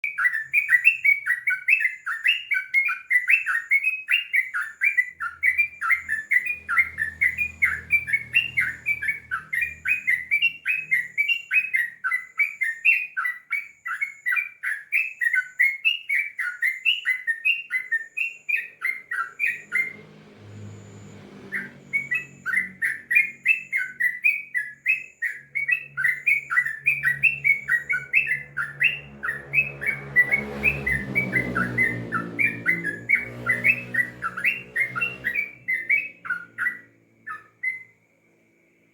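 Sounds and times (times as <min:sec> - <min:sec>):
bird singing rapid chirps: 0:00.0 - 0:38.0.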